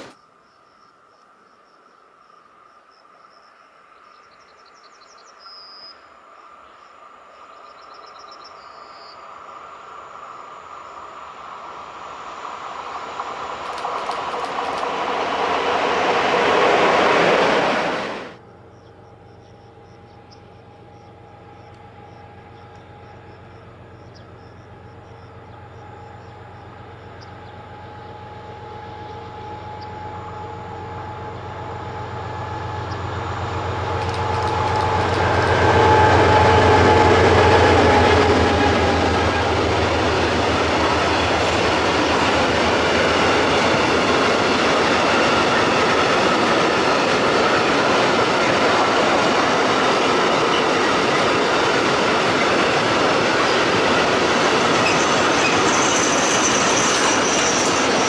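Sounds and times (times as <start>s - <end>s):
locomotive humming: 9.2s - 58.0s.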